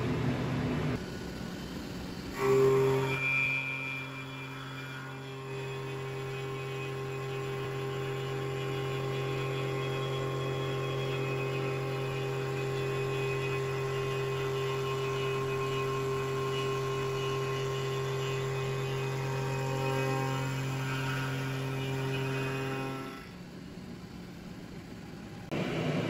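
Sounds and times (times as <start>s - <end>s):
milling machine cutting steel: 0.2s - 23.9s.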